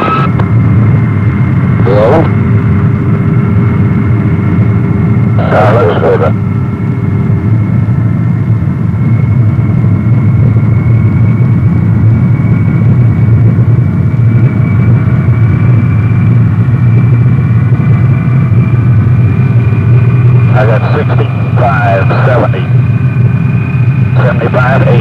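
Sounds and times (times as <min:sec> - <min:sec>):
jet engines rumbling and whining: 0:00.0 - 0:25.0.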